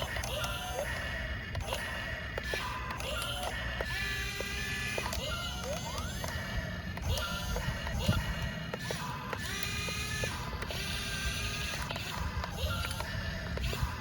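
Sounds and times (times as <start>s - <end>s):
small electric motors whining: 0.0s - 14.0s.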